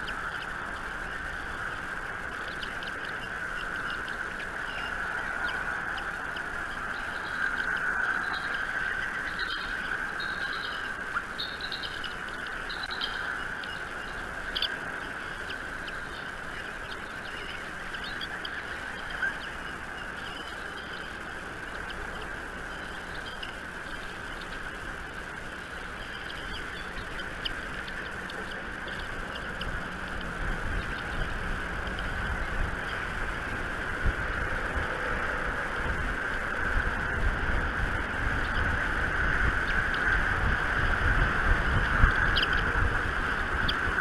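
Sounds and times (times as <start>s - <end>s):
birds chirping: 0.0s - 44.0s
steady background hiss: 0.0s - 44.0s.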